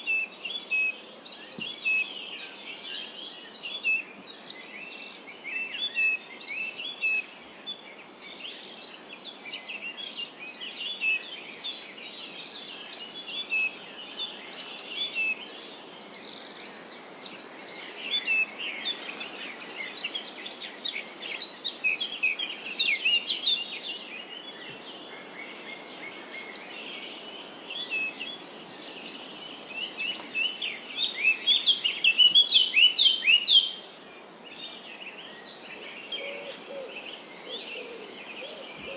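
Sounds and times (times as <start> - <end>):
birds chirping and twittering: 0.0 - 38.9
faint steady hiss: 0.0 - 38.9.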